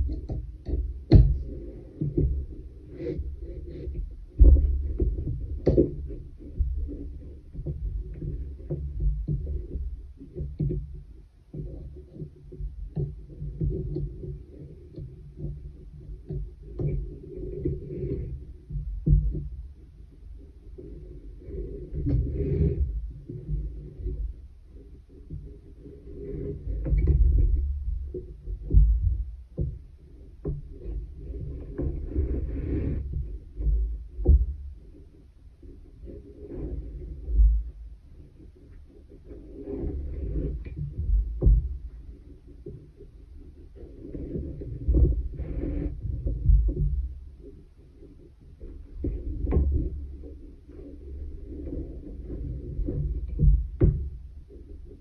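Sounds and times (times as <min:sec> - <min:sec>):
soft thumps and clicks on wooden frame: 0:00.0 - 0:20.8, 0:24.9 - 0:35.0, 0:36.0 - 0:55.0
needle knocking and rubbing on loom: 0:00.0 - 0:55.0.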